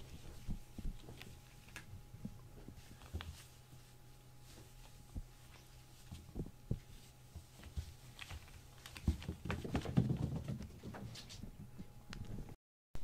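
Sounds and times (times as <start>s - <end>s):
kittens scampering on foam mat: 0.0s - 12.5s.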